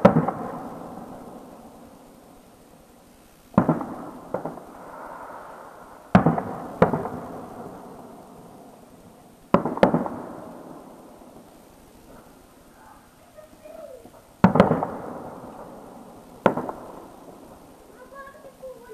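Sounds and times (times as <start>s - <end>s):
firework shells bursting: 0.0s - 2.4s, 3.4s - 18.9s
rolling echo: 0.0s - 18.9s.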